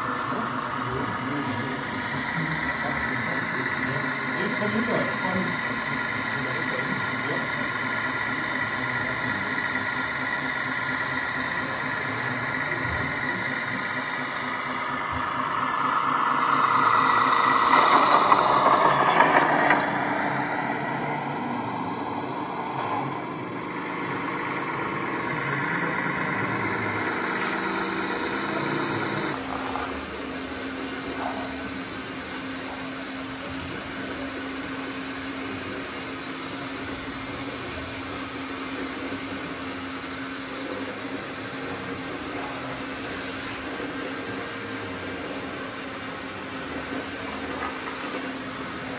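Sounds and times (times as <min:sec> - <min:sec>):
small motors whining: 0:00.0 - 0:48.9.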